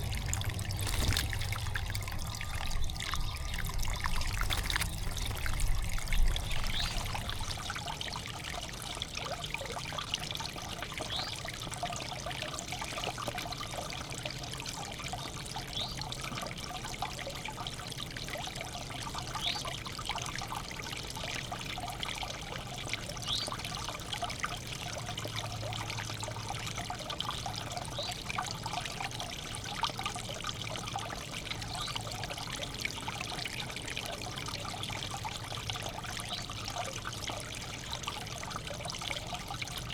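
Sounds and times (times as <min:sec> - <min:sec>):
water trickling into basin: 0:00.0 - 0:39.9.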